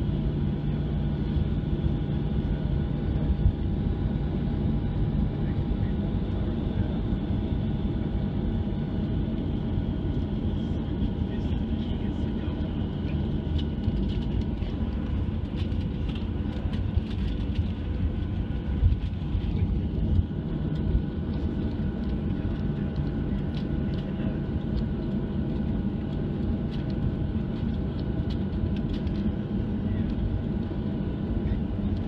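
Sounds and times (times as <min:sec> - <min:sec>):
aircraft cabin low rumble: 0:00.0 - 0:32.0
jet engine idle whine: 0:00.0 - 0:32.0.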